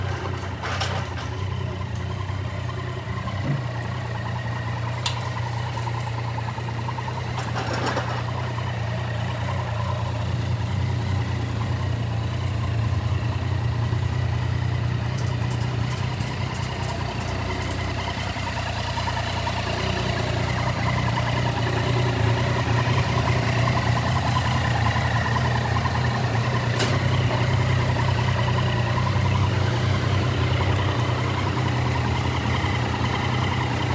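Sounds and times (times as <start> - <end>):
motorcycle engine idling: 1.4 - 33.9.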